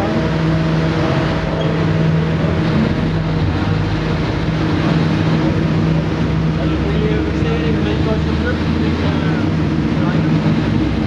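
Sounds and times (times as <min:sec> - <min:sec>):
steady machine drone: 0:00.0 - 0:11.0.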